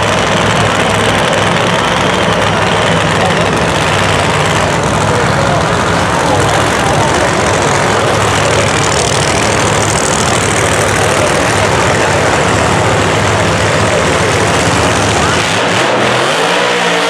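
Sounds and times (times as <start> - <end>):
drag-racing engine idling: 0.0 - 17.0.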